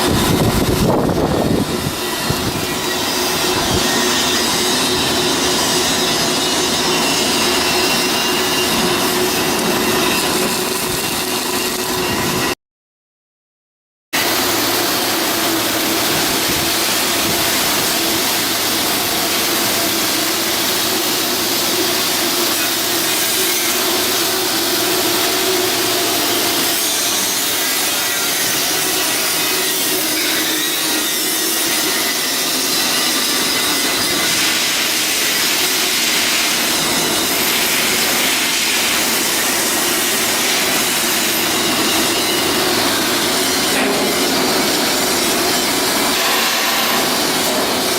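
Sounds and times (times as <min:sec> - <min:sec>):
power tool grinding steel: 0:00.0 - 0:12.5, 0:14.2 - 0:47.9.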